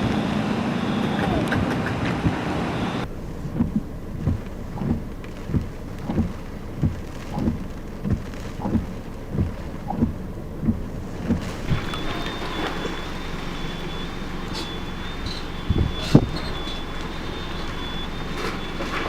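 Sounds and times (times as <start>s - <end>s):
low rumble: 0.0s - 19.0s
muffled low thumps: 2.2s - 18.8s.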